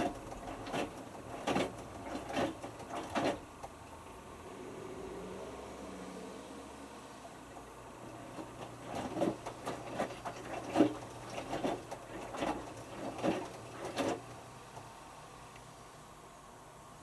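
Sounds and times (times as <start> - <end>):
washing machine motor hum: 0.0 - 6.2, 7.1 - 17.0.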